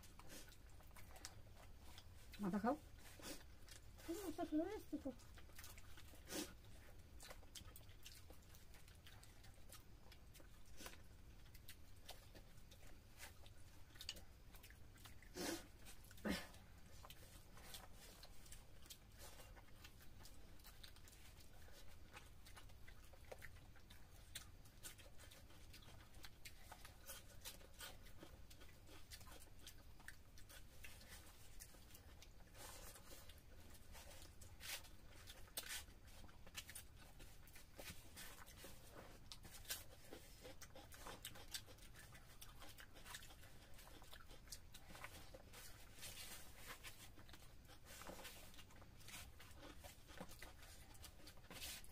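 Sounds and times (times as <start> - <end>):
chewing: 0.0 - 51.9
fingers eating food from plates: 0.0 - 51.9.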